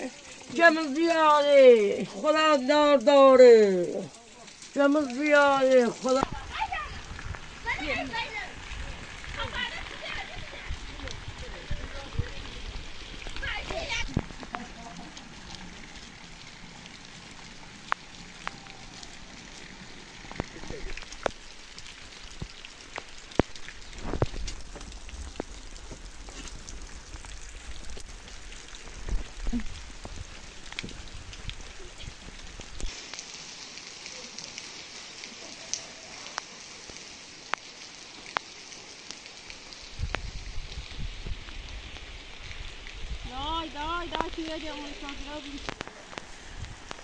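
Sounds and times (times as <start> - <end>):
steady rain on concrete: 0.0 - 47.0
sharp drip-like taps: 3.8 - 19.1, 19.8 - 40.3, 44.0 - 47.0.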